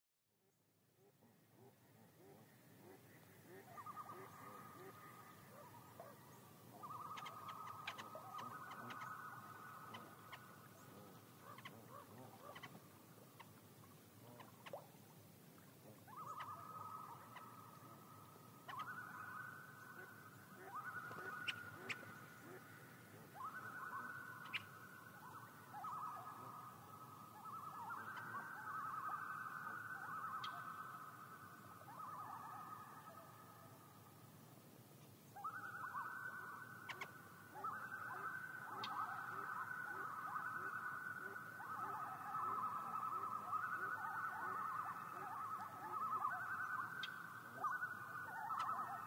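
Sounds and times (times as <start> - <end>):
loon tremolo calls: 1.0 - 34.0, 35.4 - 49.0.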